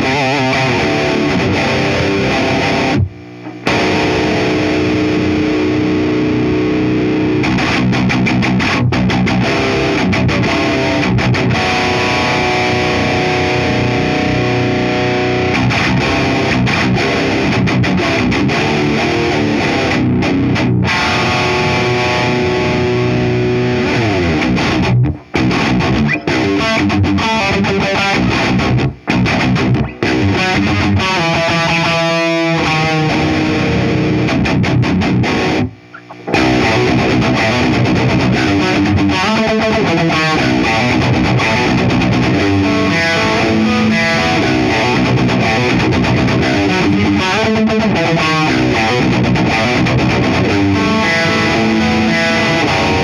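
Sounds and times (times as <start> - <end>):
distorted electric guitar riffing: 0.0 - 53.0.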